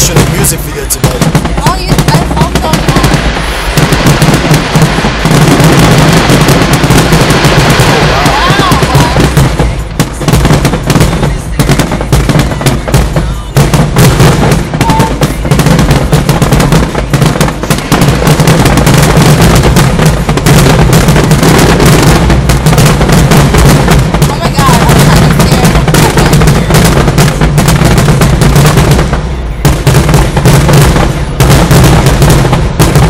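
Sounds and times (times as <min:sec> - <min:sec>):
background music: 0:00.0 - 0:33.0
fireworks bangs and crackles: 0:00.0 - 0:33.0.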